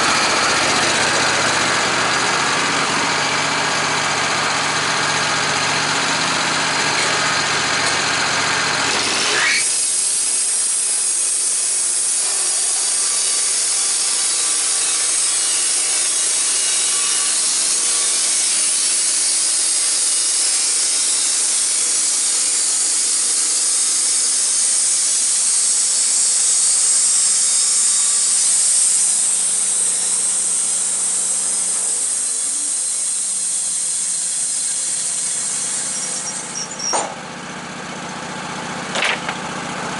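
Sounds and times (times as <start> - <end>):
saw blade cutting wood: 0.0 - 37.3, 38.9 - 39.5
engine-driven saw running: 0.0 - 39.9.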